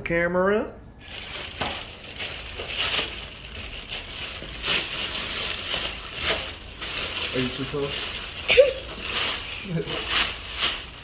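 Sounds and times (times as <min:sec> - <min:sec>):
plastic crinkling and crackling: 0:01.0 - 0:11.0.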